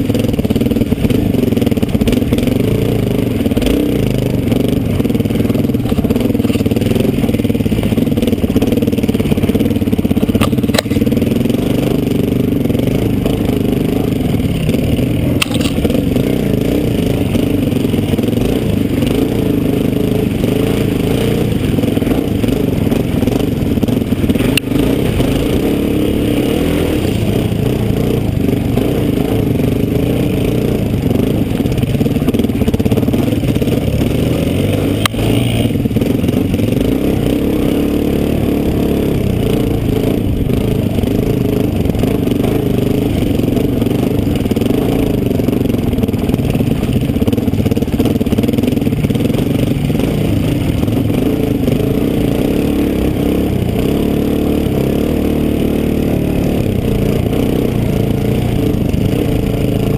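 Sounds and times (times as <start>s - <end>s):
dirt bike engines running: 0.0s - 59.9s.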